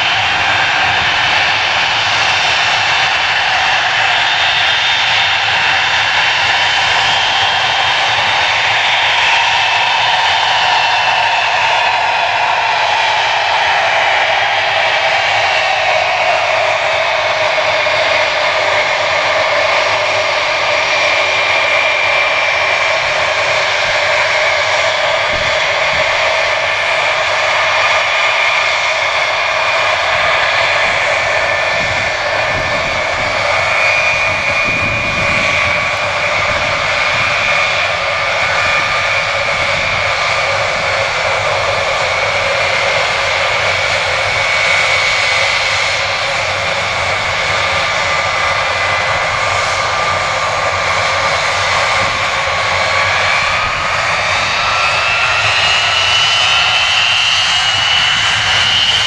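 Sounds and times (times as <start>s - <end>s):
jet engines running with high whine: 0.0s - 59.0s.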